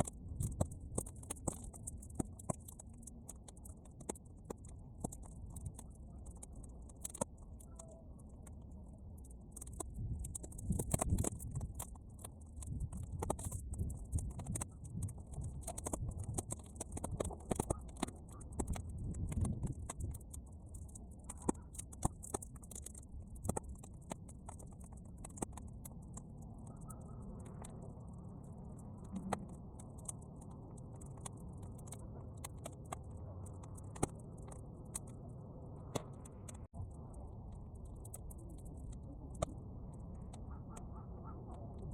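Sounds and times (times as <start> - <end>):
bonfire crackling and popping: 0.0 - 40.9
wind rumble on microphone: 0.0 - 41.9.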